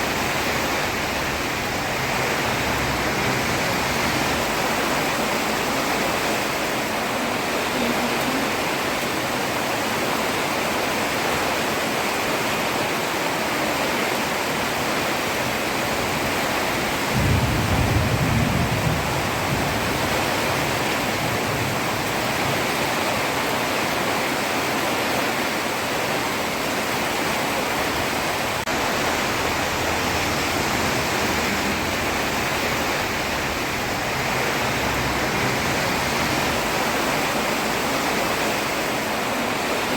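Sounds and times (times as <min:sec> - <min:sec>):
heavy rain on a road: 0:00.0 - 0:39.9.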